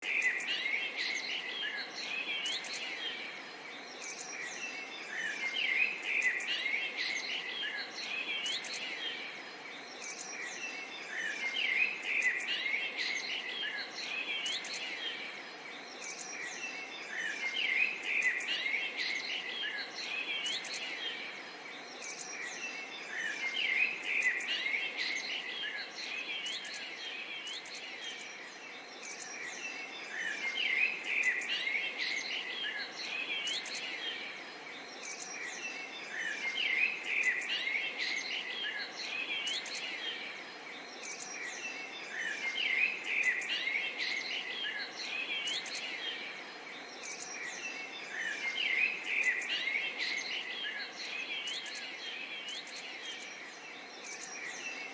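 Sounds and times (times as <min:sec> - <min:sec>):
songbirds chirping and singing: 0:00.0 - 0:54.9
steady outdoor hiss: 0:00.0 - 0:54.9.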